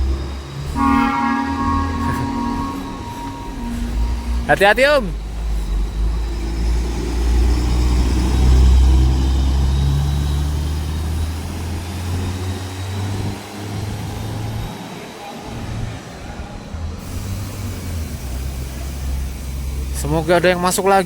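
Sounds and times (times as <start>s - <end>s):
bus diesel engine accelerating: 0.0s - 21.0s.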